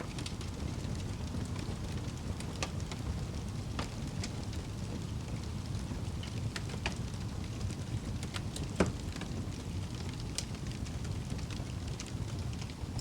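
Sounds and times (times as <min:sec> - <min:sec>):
fire burning: 0:00.0 - 0:13.0
fire crackling and popping: 0:00.0 - 0:13.0.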